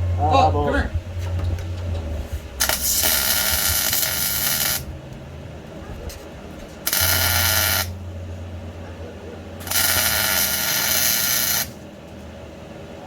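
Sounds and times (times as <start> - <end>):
arc welder crackling buzz: 0.0 - 8.8, 9.5 - 12.2
steady low hum: 0.0 - 13.0.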